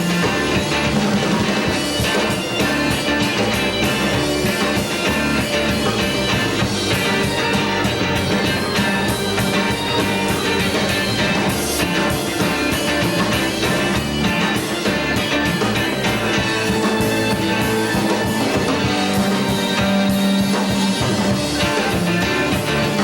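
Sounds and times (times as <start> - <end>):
bass guitar: 0.0 - 23.0
drums with steady beat: 0.0 - 23.0
electric guitar: 0.0 - 23.0.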